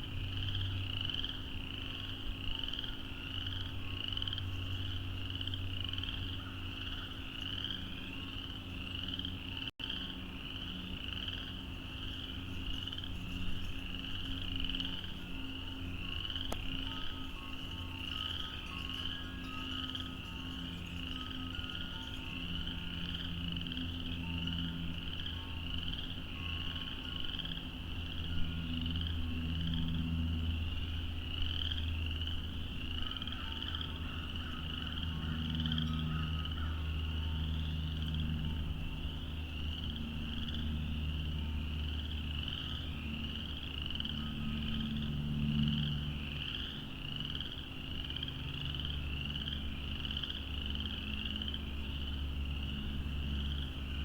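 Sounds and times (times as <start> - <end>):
frogs calling: 0.0 - 54.0
low steady hum: 0.0 - 54.0.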